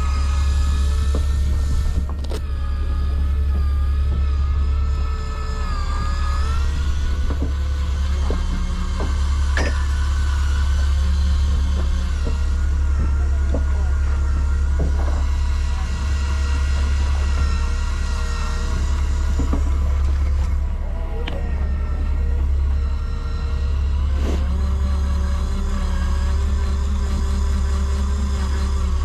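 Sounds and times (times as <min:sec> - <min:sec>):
boat engine drone: 0:00.0 - 0:29.0
whining tones: 0:00.0 - 0:29.0.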